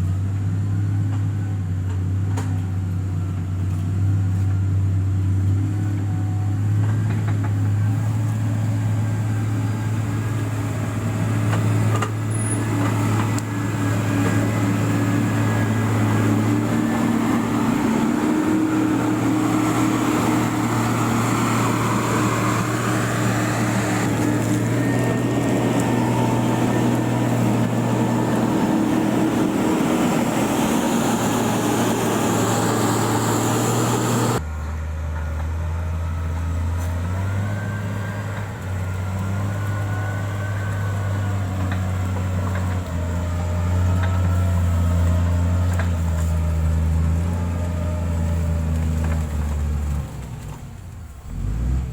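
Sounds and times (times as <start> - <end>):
heavy equipment engine running: 0.0 - 51.9.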